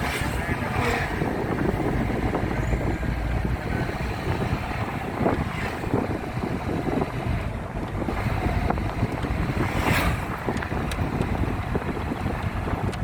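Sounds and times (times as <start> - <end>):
moving vehicle rumble: 0.0 - 13.0
wind buffeting microphone: 0.0 - 13.0.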